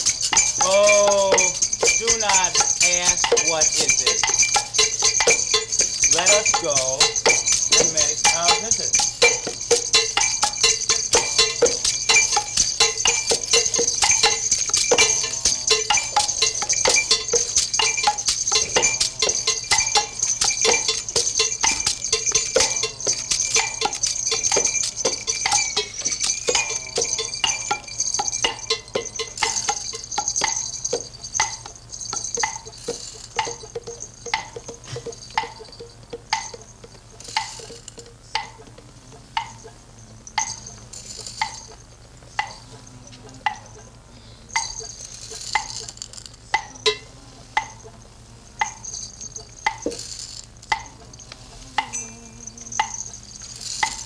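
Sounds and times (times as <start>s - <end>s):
triangle and metal tubes ringing: 0.0s - 54.0s.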